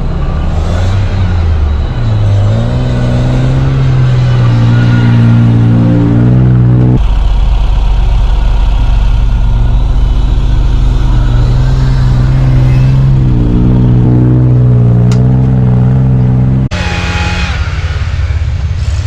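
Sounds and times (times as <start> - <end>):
off-road vehicle engine droning: 0.0 - 19.0.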